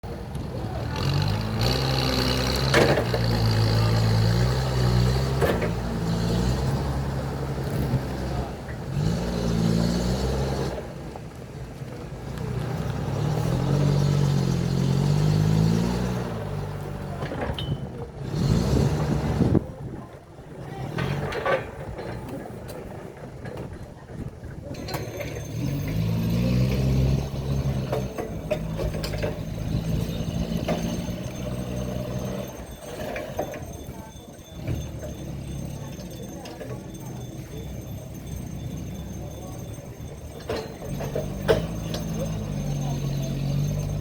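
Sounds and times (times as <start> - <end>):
heavy machine engine running: 0.0 - 44.0.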